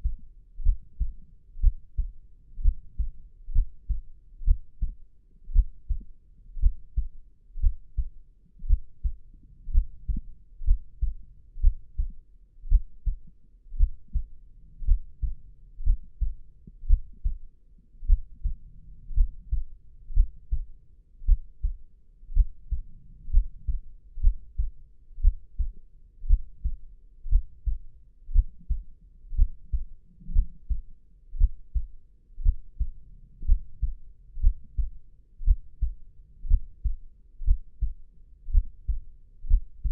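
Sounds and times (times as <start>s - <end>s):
human heartbeat: 0.0s - 39.9s.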